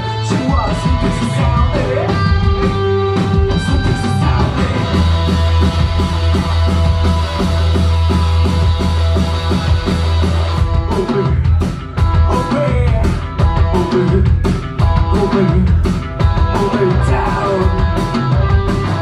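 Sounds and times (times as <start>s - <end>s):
live rock band playing: 0.0s - 19.0s
drum hits: 1.8s - 19.0s.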